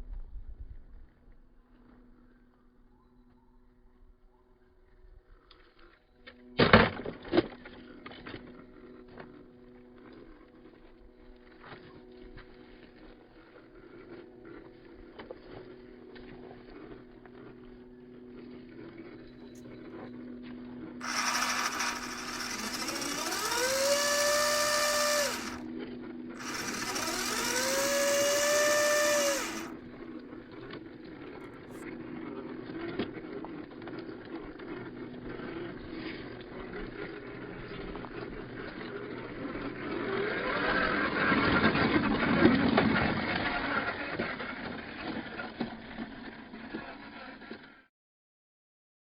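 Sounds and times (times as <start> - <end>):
rc car motor whining: 6.3 - 47.8.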